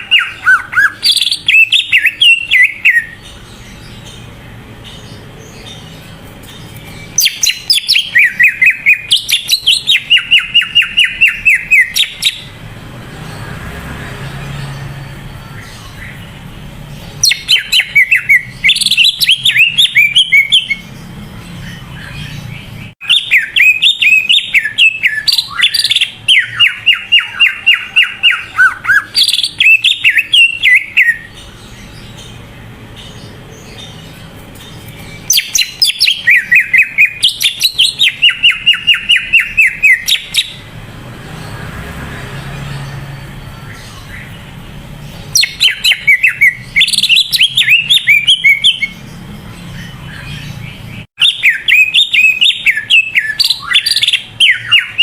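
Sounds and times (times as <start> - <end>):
bird rapid chirping song: 0.0 - 55.0.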